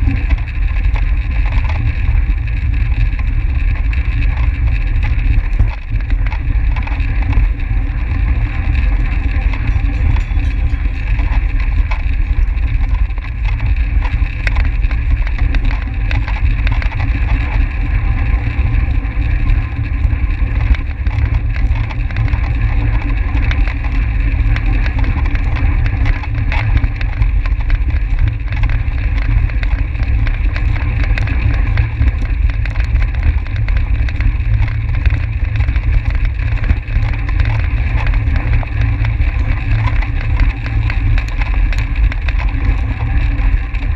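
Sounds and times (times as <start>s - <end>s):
wind rumble on microphone: 0.0s - 43.9s.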